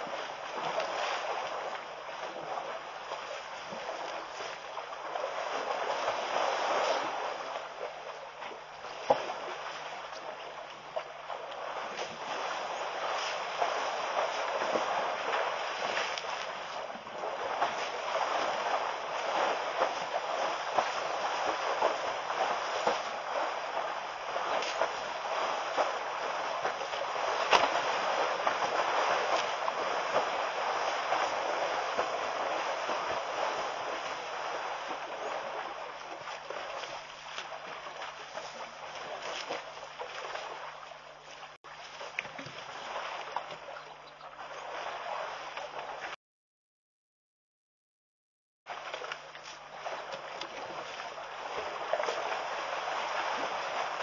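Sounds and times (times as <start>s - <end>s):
elephants splashing in mud: 0.0s - 46.2s, 48.7s - 54.0s.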